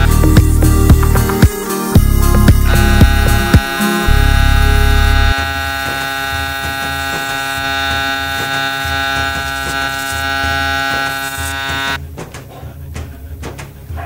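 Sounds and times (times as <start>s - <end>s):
electronic drone chord: 0.0s - 12.0s
pulsing low bass: 0.0s - 12.0s.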